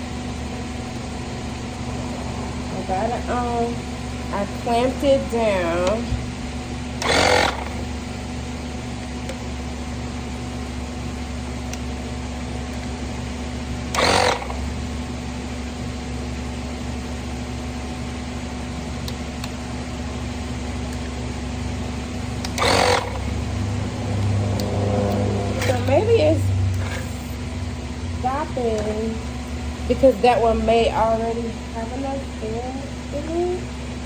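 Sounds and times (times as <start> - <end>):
tire inflator motor hum: 0.0 - 34.0.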